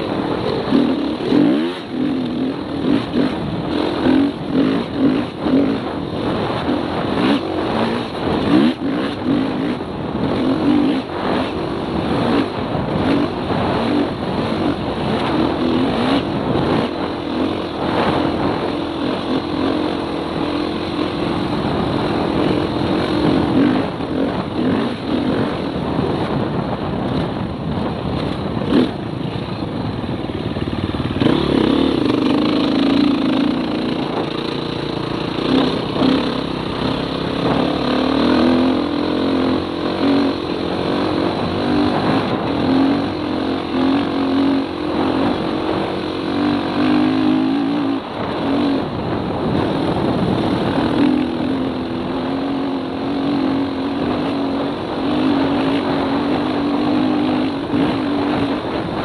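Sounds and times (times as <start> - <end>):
dirt bike engine: 0.0 - 59.0
wind noise on microphone: 0.0 - 59.0.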